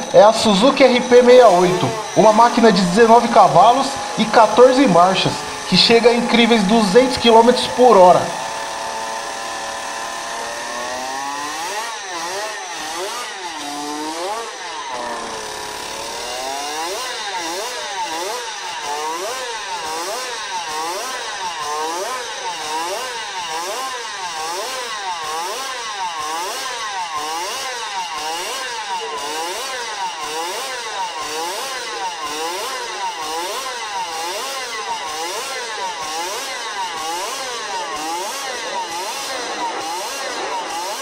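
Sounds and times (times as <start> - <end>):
two-stroke motorcycle engine revving: 0.0 - 41.0.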